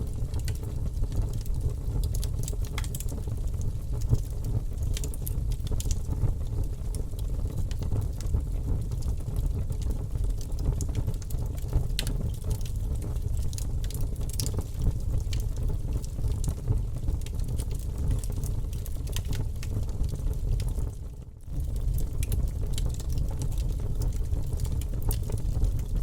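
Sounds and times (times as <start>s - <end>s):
campfire crackling and popping: 0.0s - 26.0s
low rumble of fire: 0.0s - 26.0s.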